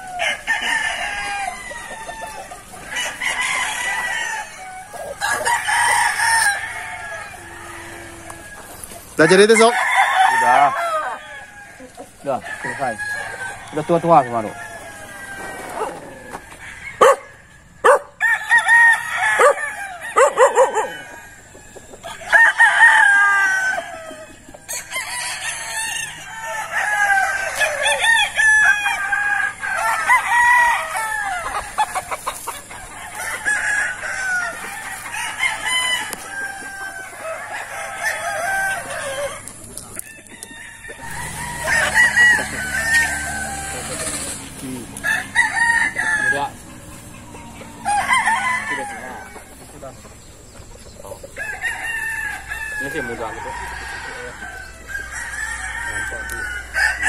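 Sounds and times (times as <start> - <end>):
roosters crowing: 0.0 - 57.0.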